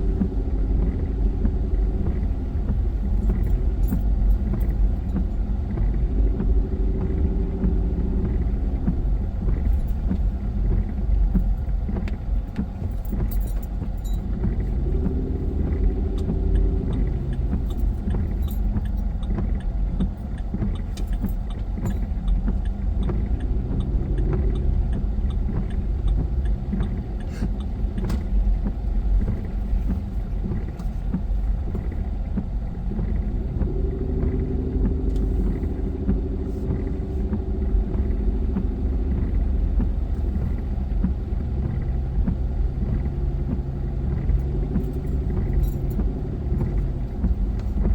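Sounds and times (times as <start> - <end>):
engine and tyre rumble: 0.0 - 47.9
light clicks and rattles: 0.1 - 47.9.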